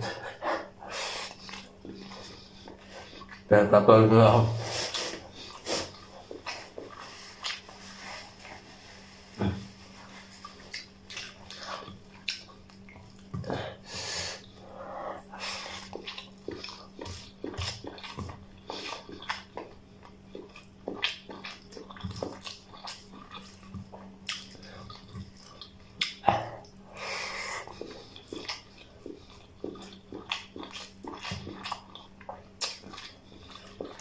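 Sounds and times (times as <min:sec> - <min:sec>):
person chewing with wet smacks: 0:00.1 - 0:03.5, 0:04.8 - 0:08.7, 0:09.3 - 0:13.8, 0:15.2 - 0:34.0.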